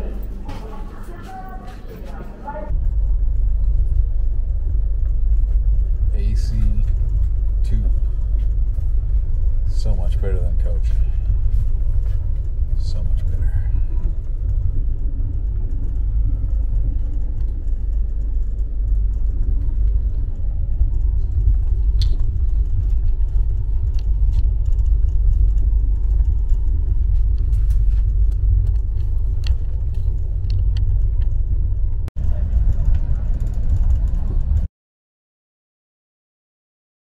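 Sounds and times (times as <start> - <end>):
train rumbling: 0.0 - 34.7
light clicks and rattles: 3.4 - 34.7.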